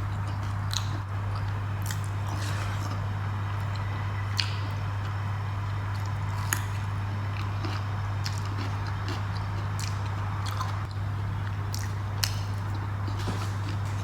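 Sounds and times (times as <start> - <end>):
person chewing food: 0.0 - 5.2, 5.9 - 14.0
steady low hum: 0.0 - 14.0.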